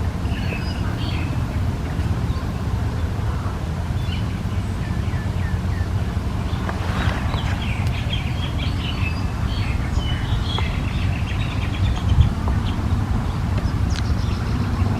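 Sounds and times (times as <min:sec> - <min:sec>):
small birds chirping: 0:00.0 - 0:14.9
steady low rumble: 0:00.0 - 0:14.9.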